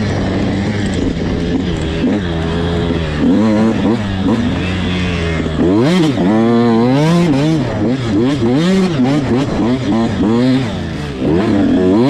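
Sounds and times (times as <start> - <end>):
two-stroke dirt bike engine revving: 0.0 - 12.0.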